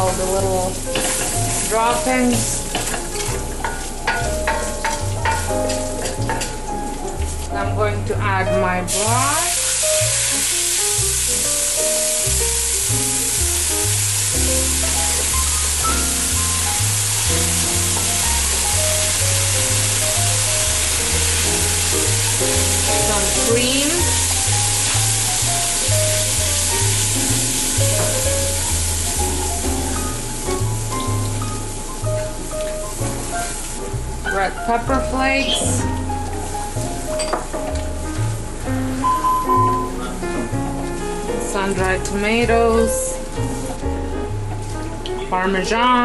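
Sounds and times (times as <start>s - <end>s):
broth sizzling in hot pot: 0.0s - 8.2s, 8.8s - 46.0s
background music with bass line: 0.0s - 46.0s.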